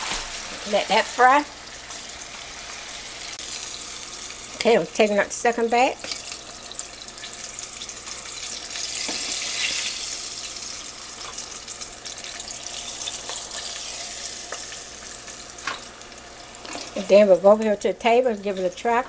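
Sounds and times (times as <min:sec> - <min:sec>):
wings sizzling in hot oil: 0:00.0 - 0:19.0.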